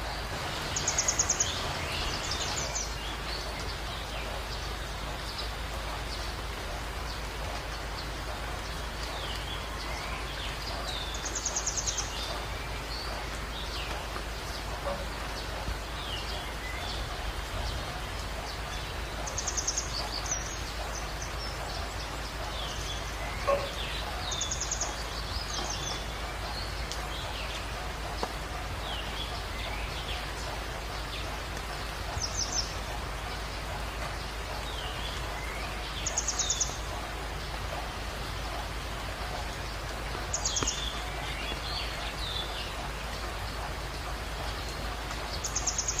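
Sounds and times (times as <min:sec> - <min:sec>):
songbird trill: 0:00.0 - 0:06.4, 0:07.1 - 0:38.4, 0:39.5 - 0:46.0
rain: 0:00.0 - 0:46.0
stream water running: 0:00.0 - 0:46.0.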